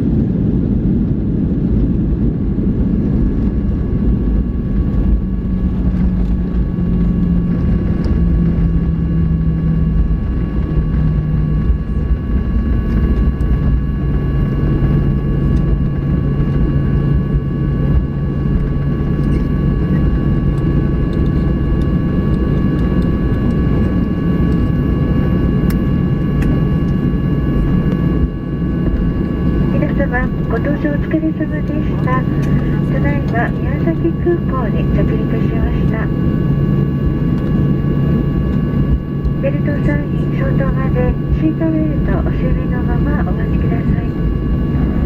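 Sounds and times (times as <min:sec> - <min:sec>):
jet cabin rumble: 0:00.0 - 0:45.0
steady whining tones: 0:00.9 - 0:45.0.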